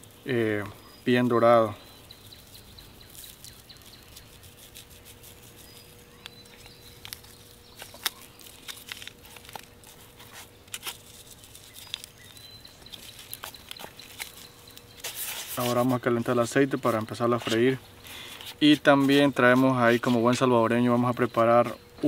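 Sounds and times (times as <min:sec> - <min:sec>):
faint outdoor background: 0:00.0 - 0:22.0.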